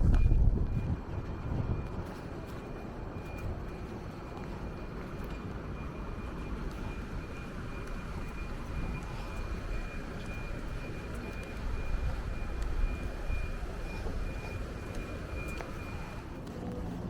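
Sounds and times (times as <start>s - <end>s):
distant engine rumble: 0.0s - 17.0s.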